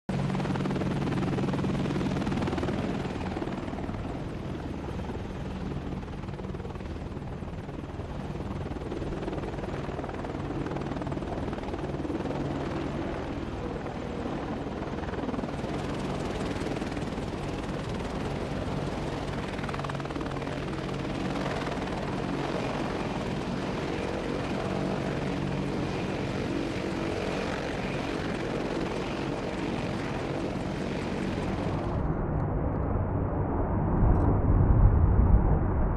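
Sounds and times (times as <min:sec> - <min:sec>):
helicopters droning: 0:00.1 - 0:35.2.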